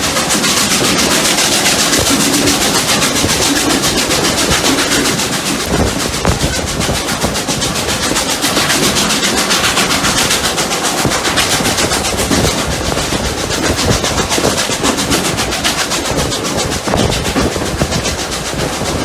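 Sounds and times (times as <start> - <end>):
steam hiss: 0.0 - 19.0
steam locomotive exhaust beats: 0.0 - 19.0
train running noise: 0.0 - 19.0.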